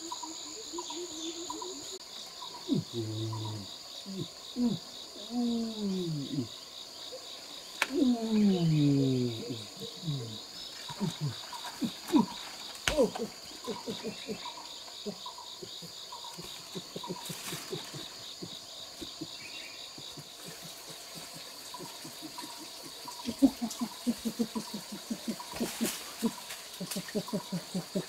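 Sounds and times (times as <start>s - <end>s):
high insect trill: 0.0s - 28.0s.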